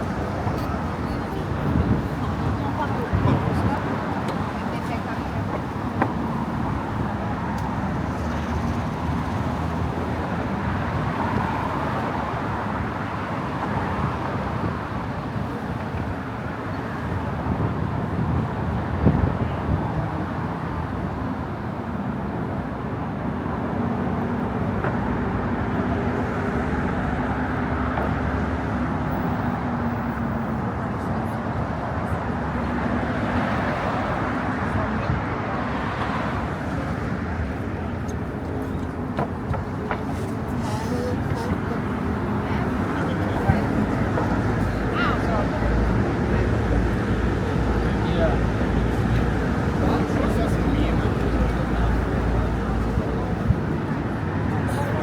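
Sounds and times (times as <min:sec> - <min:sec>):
road traffic: 0:00.0 - 0:55.0
voices of passers-by: 0:00.0 - 0:55.0.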